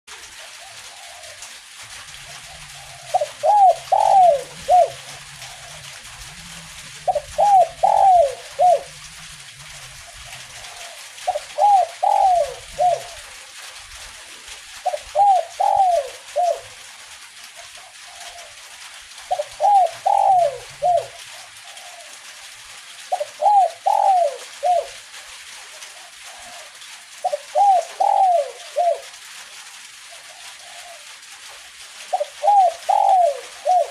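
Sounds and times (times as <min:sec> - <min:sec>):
dove cooing: 0:00.3 - 0:13.4, 0:14.8 - 0:25.0, 0:25.8 - 0:29.4, 0:30.0 - 0:31.3, 0:32.1 - 0:33.9.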